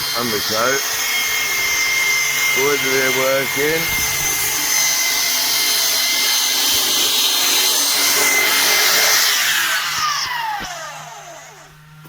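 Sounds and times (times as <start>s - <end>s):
power tool whirring: 0.0s - 12.0s.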